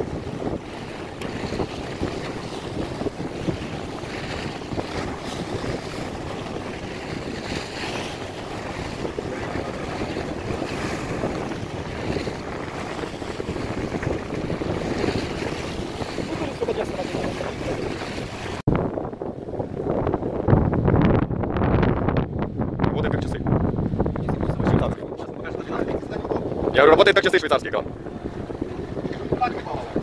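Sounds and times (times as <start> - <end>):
boat engine running: 0.0 - 30.0
churning sea: 0.0 - 30.0
wind buffeting microphone: 0.0 - 30.0.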